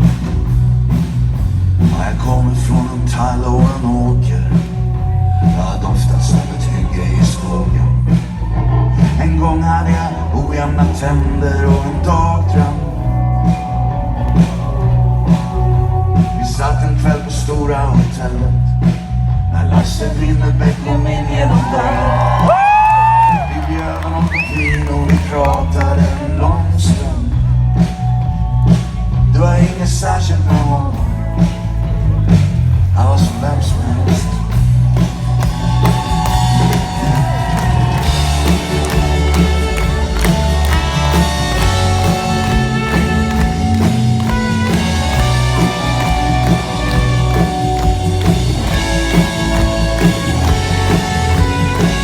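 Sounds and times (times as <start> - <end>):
rock band music: 0.0 - 52.0.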